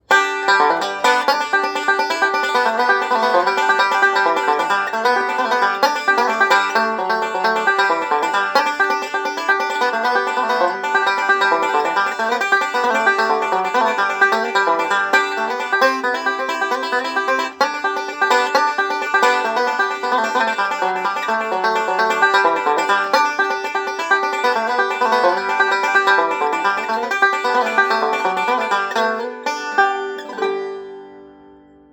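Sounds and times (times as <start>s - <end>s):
banjo picking: 0.0s - 31.9s.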